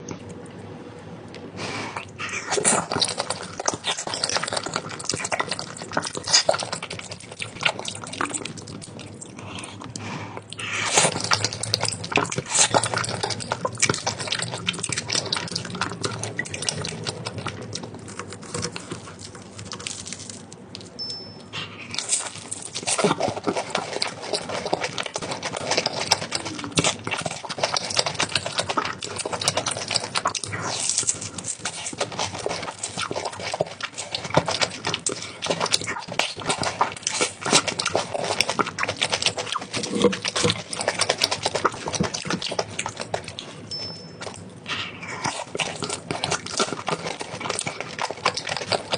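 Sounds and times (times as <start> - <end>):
wet chewing and mouth smacking: 1.4 - 48.9.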